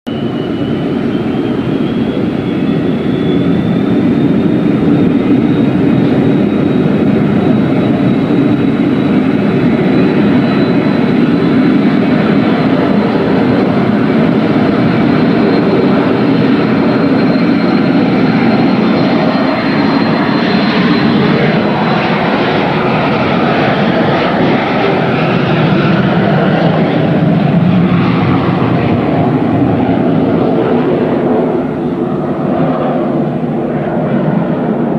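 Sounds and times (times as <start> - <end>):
jet engines roaring at takeoff: 0.1 - 34.9.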